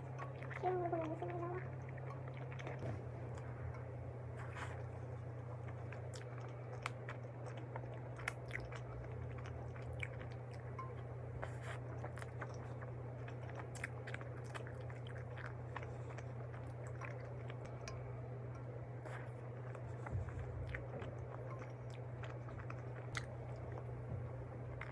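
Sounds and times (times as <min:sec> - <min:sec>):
person chewing bread: 0:00.0 - 0:24.9
steady low hum: 0:00.0 - 0:24.9.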